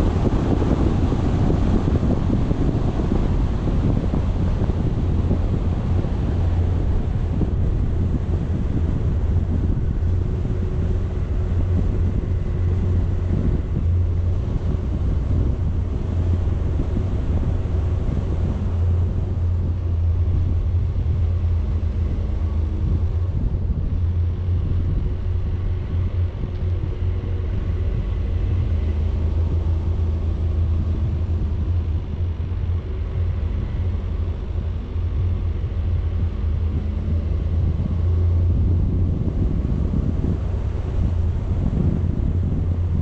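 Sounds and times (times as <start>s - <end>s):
vehicle engine and road rumble: 0.0s - 43.0s
wind noise on microphone: 0.0s - 43.0s.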